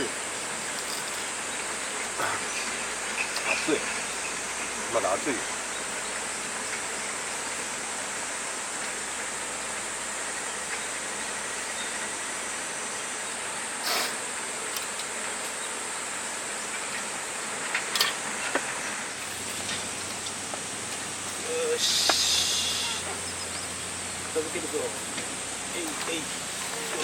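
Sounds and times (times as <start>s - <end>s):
background hiss: 0.0s - 27.0s
high-pitched insect chorus: 0.0s - 27.0s.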